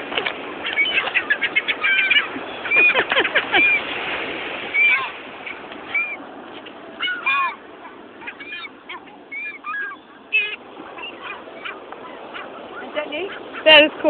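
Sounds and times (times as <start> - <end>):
gulls squawking: 0.0 - 14.0.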